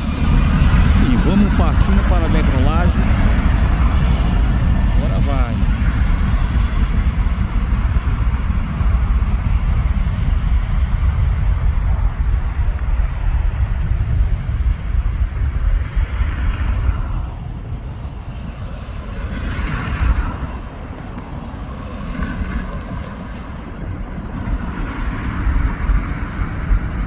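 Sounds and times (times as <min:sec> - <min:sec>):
jet engine rumble: 0:00.0 - 0:27.0.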